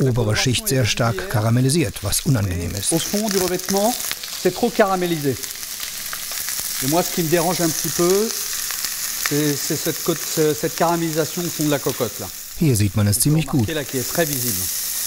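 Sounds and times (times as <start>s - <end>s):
meat sizzling in hot fat: 0.0s - 15.0s.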